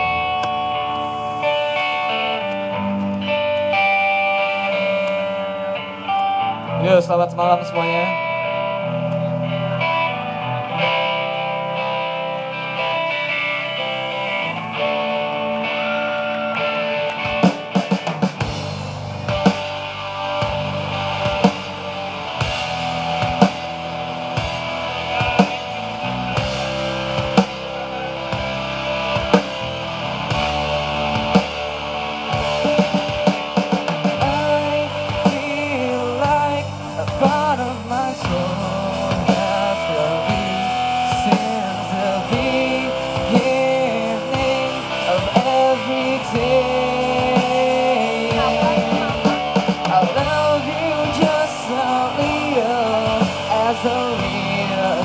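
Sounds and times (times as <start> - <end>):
drum kit beat: 0.0 - 6.4, 8.9 - 55.0
guitar chords: 0.0 - 55.0
rock band playing: 0.0 - 55.0.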